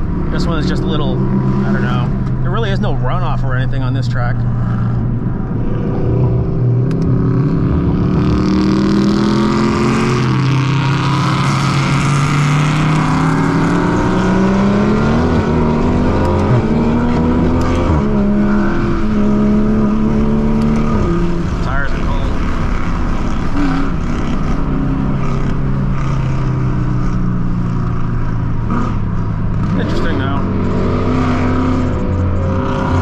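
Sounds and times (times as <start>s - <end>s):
car engine accelerating: 0.0s - 33.0s
road and wind noise: 0.0s - 33.0s.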